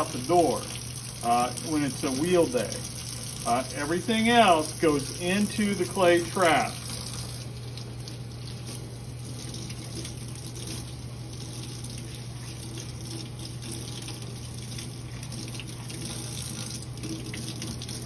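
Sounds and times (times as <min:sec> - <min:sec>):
hands washing under water: 0:00.0 - 0:18.0
steady low hum: 0:00.0 - 0:18.0.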